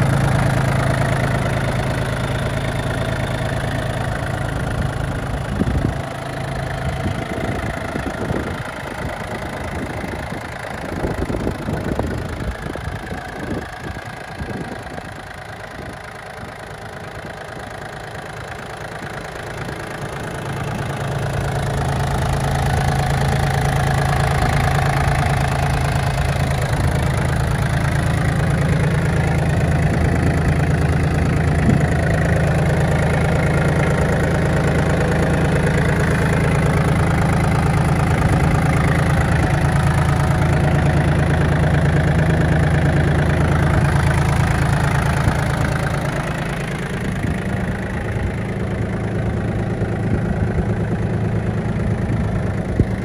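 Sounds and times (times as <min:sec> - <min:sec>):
diesel tractor engine idling: 0:00.0 - 0:53.0.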